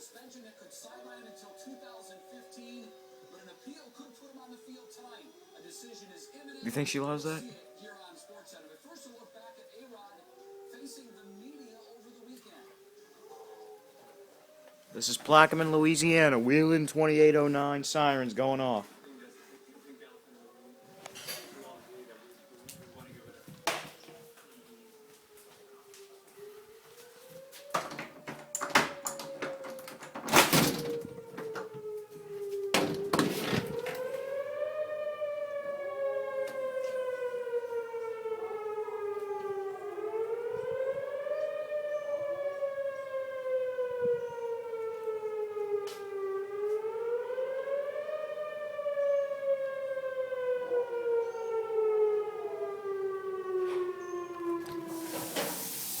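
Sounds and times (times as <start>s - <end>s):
tornado warning siren wailing: 0.0s - 56.0s.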